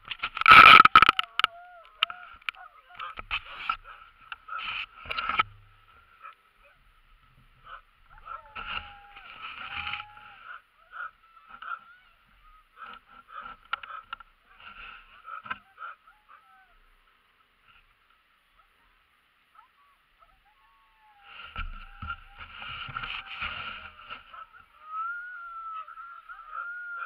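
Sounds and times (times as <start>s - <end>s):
sled dogs whining and yelping: 0.3s - 6.8s, 7.6s - 16.9s, 19.5s - 27.0s.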